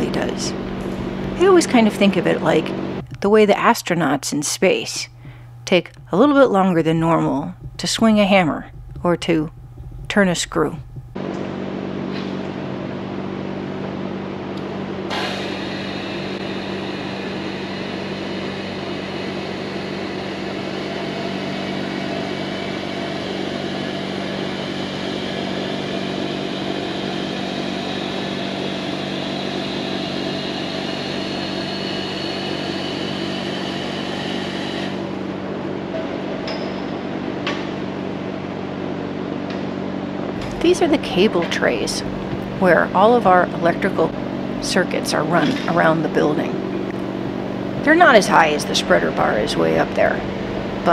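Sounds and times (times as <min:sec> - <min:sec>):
hydraulic drive humming: 0:00.0 - 0:03.2, 0:05.1 - 0:13.1, 0:14.5 - 0:38.3, 0:39.4 - 0:50.9.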